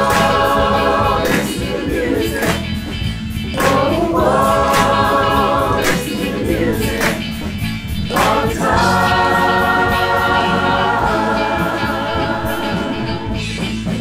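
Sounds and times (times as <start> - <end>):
choir singing a long chord: 0.0 - 2.7, 3.6 - 13.4.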